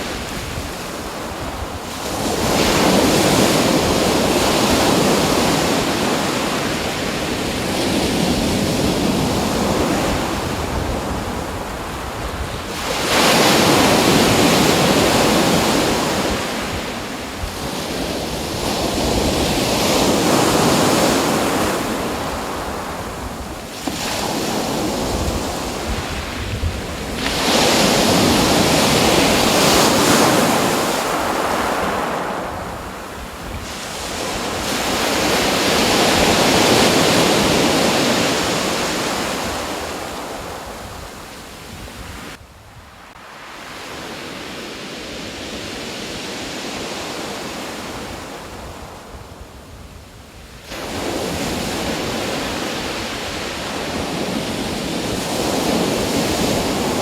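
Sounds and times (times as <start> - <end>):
surf rushing: 0.0 - 41.6, 50.6 - 57.0.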